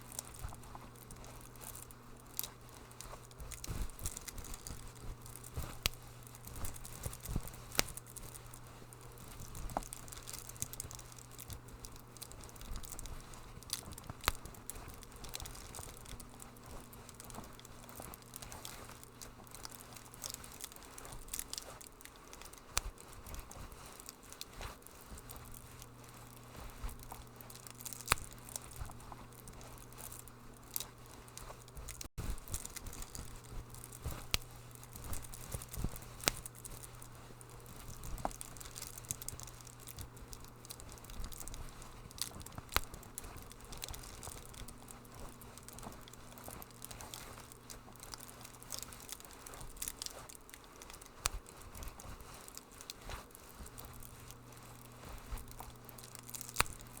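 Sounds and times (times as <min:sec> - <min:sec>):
fire crackling in fireplace: 0:00.0 - 0:57.0
soft steady hiss: 0:00.0 - 0:57.0.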